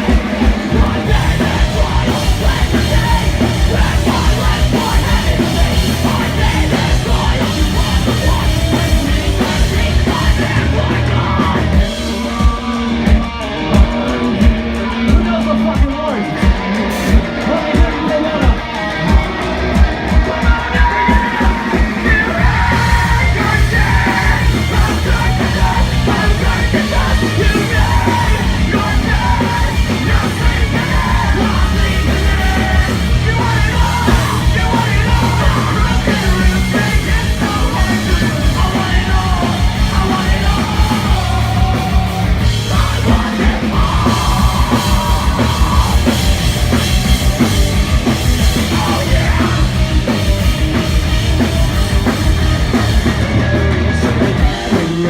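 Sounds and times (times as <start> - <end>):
distorted guitars: 0.0 - 55.0
heavy rock band playing: 0.0 - 55.0
pounding drums: 0.0 - 55.0
yelled vocals: 0.0 - 55.0.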